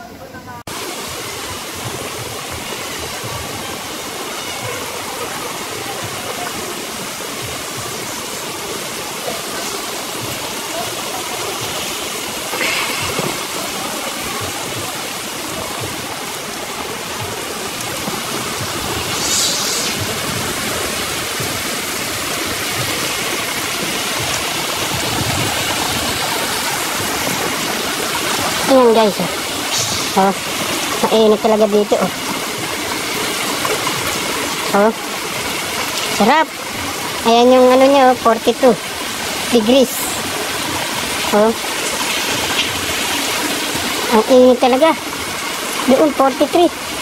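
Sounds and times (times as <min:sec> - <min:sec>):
water rushing: 0:00.0 - 0:47.0.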